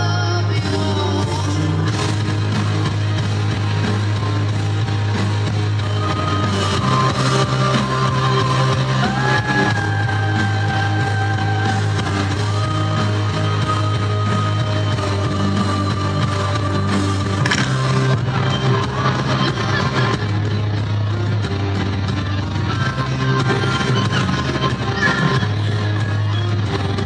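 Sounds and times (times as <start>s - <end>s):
backing music with deep bass: 0.0s - 27.0s.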